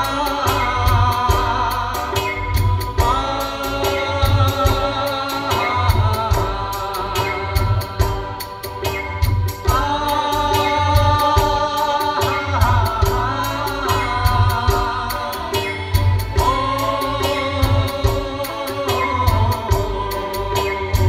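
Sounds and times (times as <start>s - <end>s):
steady drum rhythm: 0.0s - 21.0s.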